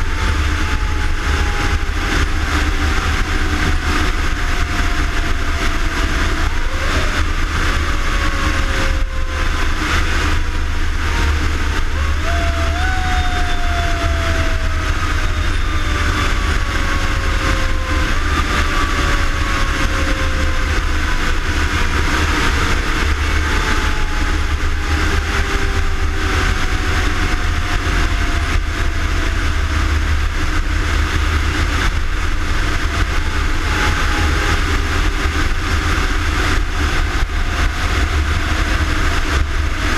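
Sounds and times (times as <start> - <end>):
falling whine: 0.0 - 39.9
fire engine rumbling: 0.0 - 39.9.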